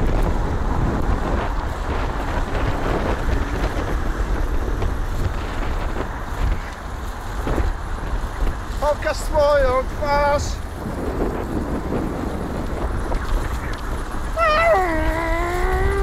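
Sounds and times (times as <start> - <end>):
car and scooter traffic: 0.0 - 16.0
wind buffeting microphone: 0.0 - 16.0.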